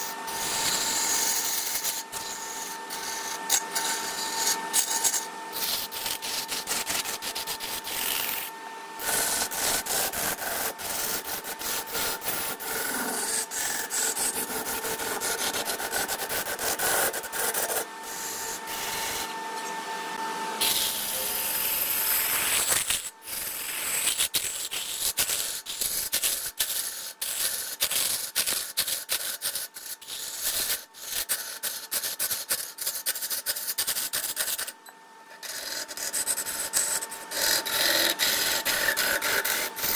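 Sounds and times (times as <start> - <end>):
scraping spinning wood on lathe: 0.0 - 19.8, 20.6 - 39.9
faint machine hum: 0.0 - 39.9.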